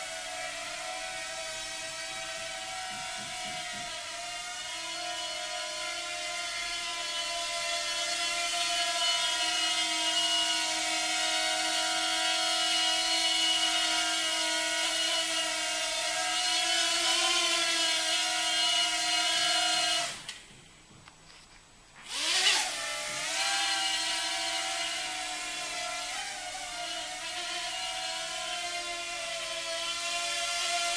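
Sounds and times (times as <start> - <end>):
quadcopter motors whining: 0.0 - 20.4, 22.0 - 30.9.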